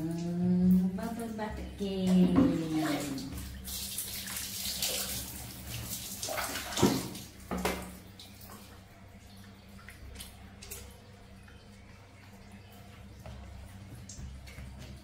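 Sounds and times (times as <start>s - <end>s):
water pouring and splashing: 2.0s - 15.0s.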